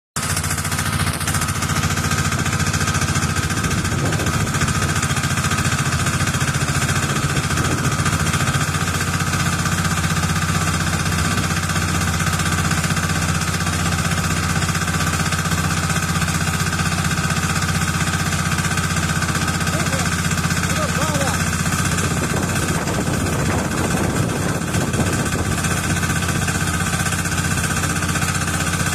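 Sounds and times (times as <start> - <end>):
diesel engine pulsing: 0.2 - 28.9.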